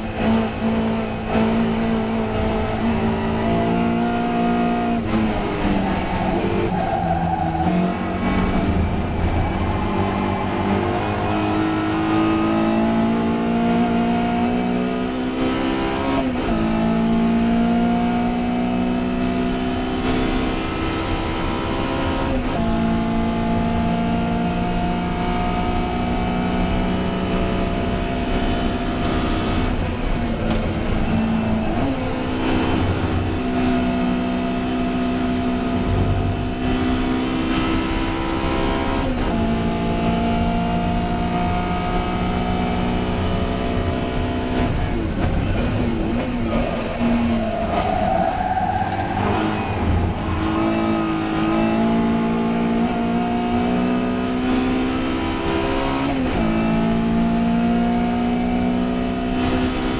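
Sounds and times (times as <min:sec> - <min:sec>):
racing car engine at speed: 0:00.0 - 0:59.9.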